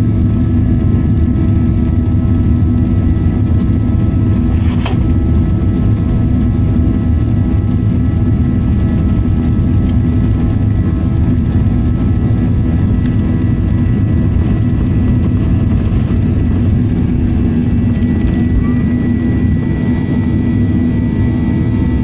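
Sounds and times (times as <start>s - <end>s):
high whine: 0.0s - 22.0s
jet engine cabin rumble: 0.0s - 22.0s.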